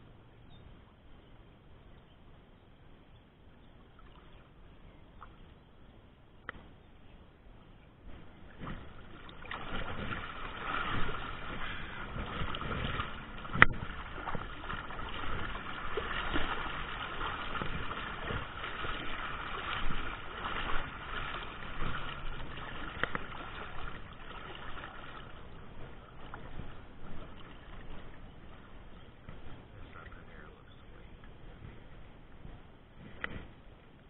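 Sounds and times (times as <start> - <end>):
water lapping against kayak hull: 3.7 - 34.0.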